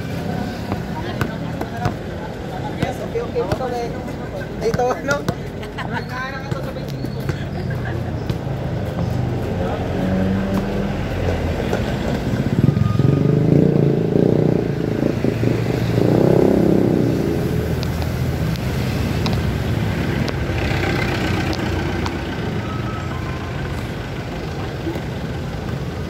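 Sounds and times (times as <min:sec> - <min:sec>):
vehicles passing close by: 0:00.0 - 0:26.0.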